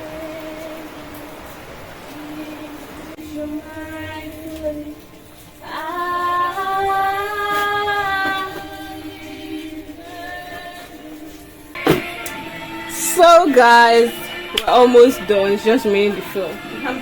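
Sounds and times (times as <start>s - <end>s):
woman singing: 2.1s - 17.0s.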